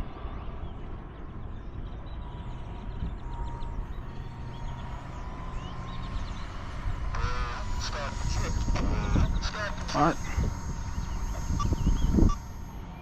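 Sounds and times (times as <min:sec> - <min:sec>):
distant jet turbine whine: 0:00.0 - 0:13.0
wind rumbling on microphone: 0:00.0 - 0:13.0.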